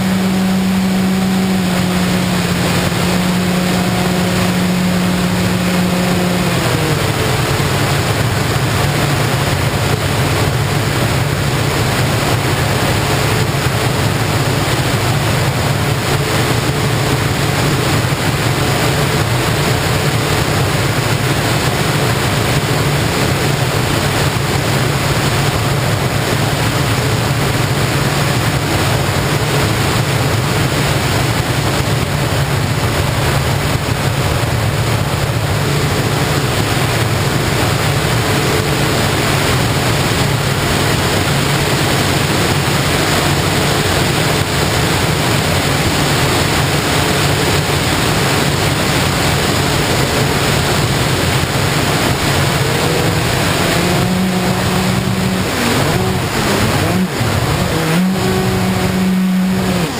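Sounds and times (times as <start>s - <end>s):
model plane motor and propeller hum: 0.0s - 59.9s
rush of wind: 0.0s - 59.9s.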